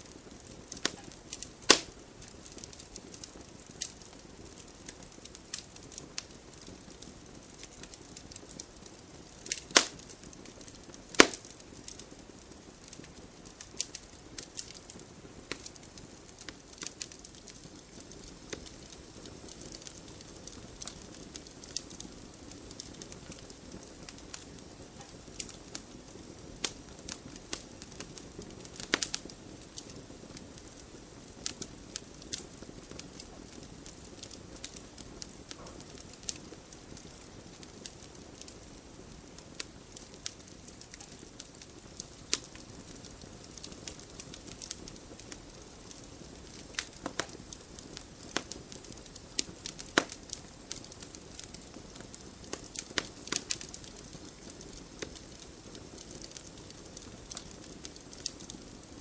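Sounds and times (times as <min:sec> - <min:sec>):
flames hissing: 0:00.0 - 0:59.0
logs crackling and popping: 0:00.0 - 0:59.0.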